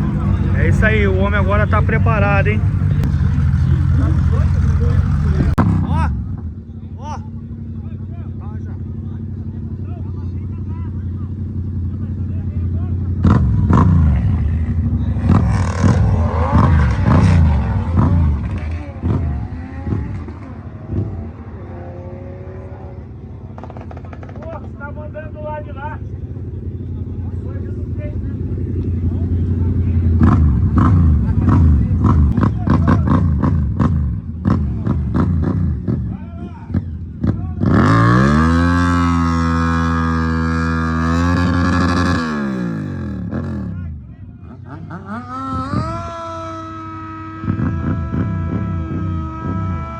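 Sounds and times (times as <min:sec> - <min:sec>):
motorcycle engines accelerating: 0:00.0 - 0:49.9.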